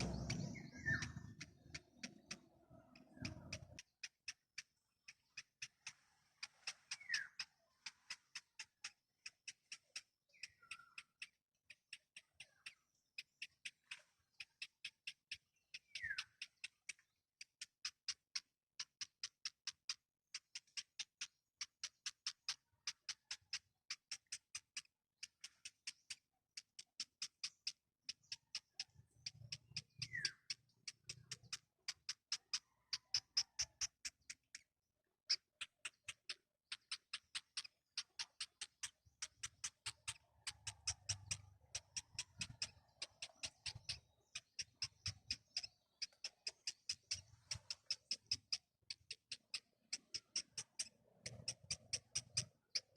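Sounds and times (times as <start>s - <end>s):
baby birds chirping: 0.0s - 52.9s.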